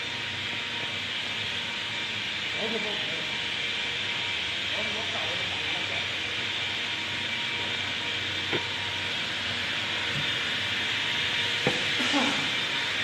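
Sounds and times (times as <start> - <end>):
machinery hiss and hum: 0.0 - 13.0.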